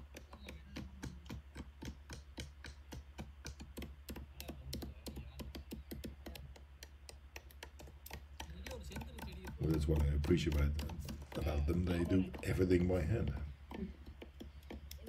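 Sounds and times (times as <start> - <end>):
knives chopping on wood: 0.1 - 15.0.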